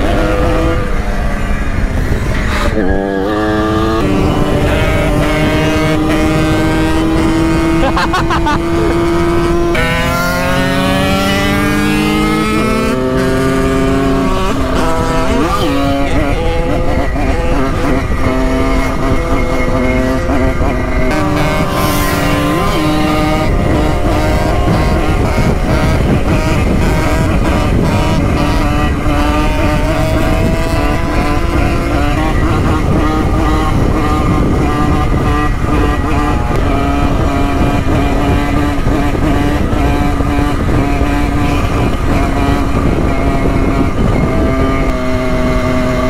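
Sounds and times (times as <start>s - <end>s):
low wind rumble: 0.0s - 46.0s
moped engines running: 0.0s - 46.0s.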